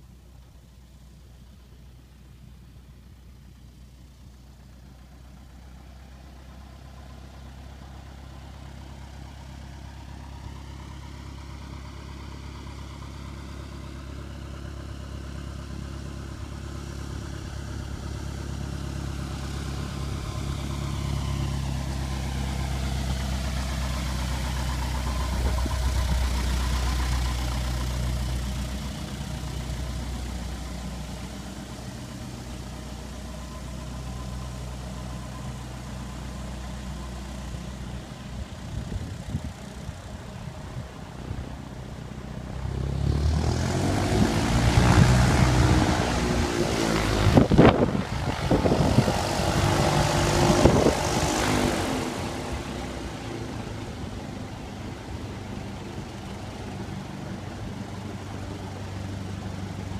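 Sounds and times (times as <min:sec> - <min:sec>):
light airplane engine droning: 0:00.0 - 0:42.9, 0:43.8 - 0:59.9.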